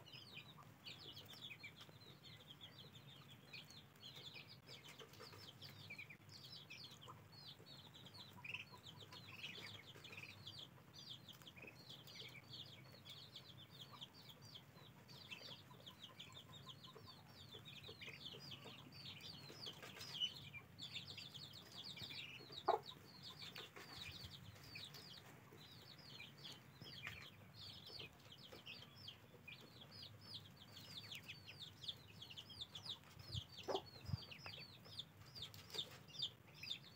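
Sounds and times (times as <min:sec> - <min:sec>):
ducklings peeping: 0:00.0 - 0:36.9.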